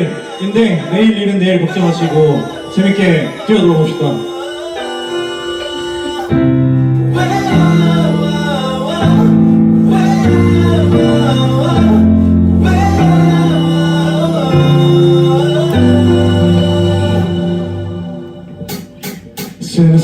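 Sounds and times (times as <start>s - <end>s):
wavering lead melody: 0.0s - 19.6s
sustained keyboard chords: 0.0s - 20.0s.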